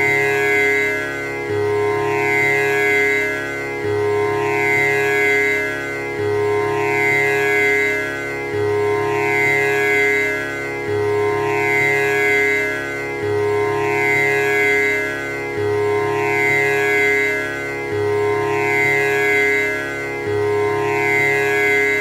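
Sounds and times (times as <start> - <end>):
tanpura strings drone: 0.0 - 22.0.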